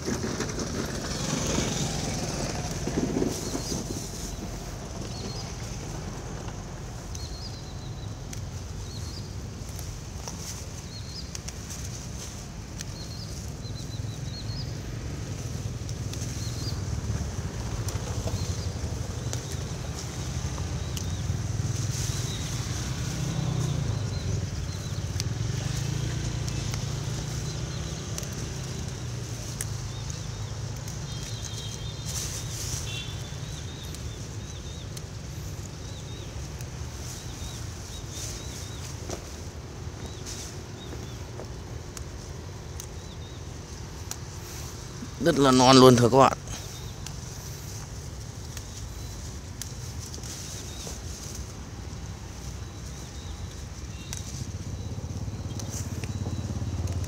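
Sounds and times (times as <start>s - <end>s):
leaves and plastic bag rustling: 0.0s - 57.0s.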